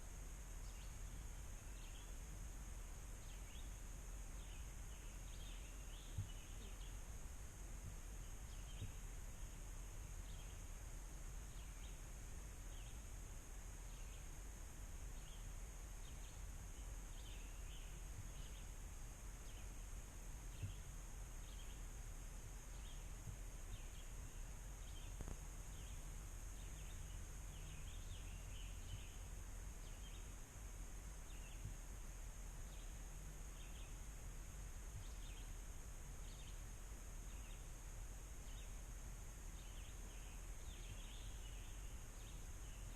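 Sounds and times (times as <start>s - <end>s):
high-pitched hiss: 0.0s - 42.9s
small birds chirping: 0.0s - 42.9s.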